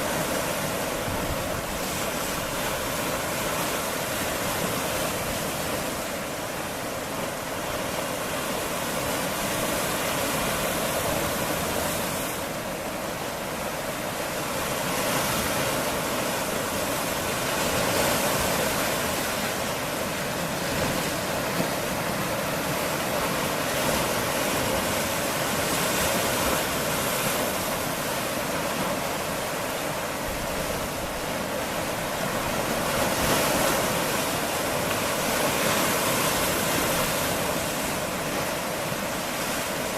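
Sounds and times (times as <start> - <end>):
waves washing against rocks: 0.0 - 39.9.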